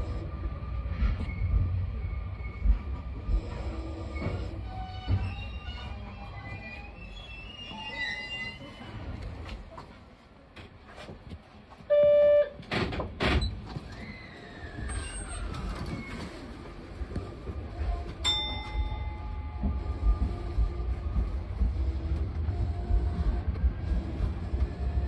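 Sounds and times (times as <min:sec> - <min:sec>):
train rumbling away: 0:00.0 - 0:07.9, 0:12.6 - 0:25.0.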